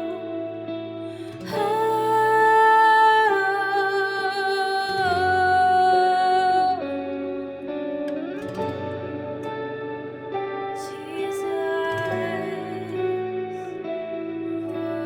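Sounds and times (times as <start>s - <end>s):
guitar: 0.0s - 15.0s.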